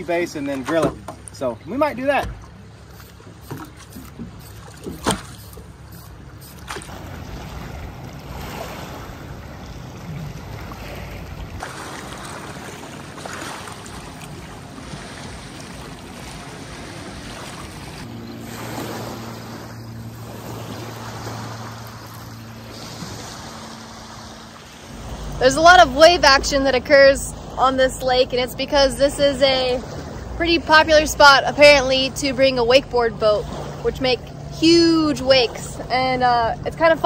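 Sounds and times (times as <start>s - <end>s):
low steady hum: 0.0s - 37.0s
small waves lapping on shore: 0.0s - 37.0s.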